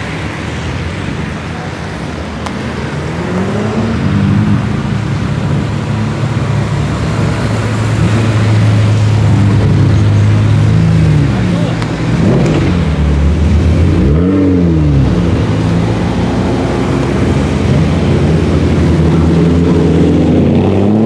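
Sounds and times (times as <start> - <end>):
cars accelerating past: 2.4 - 21.0.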